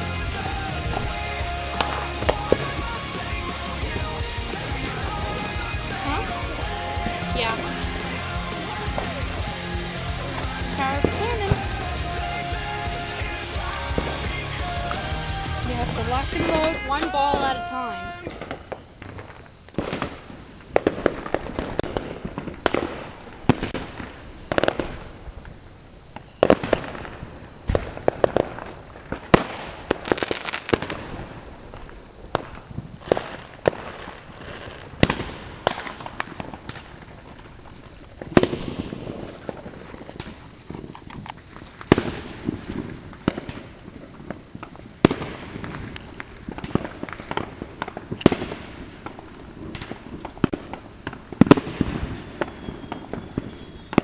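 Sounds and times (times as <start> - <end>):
fireworks bangs and pops: 0.0 - 54.0.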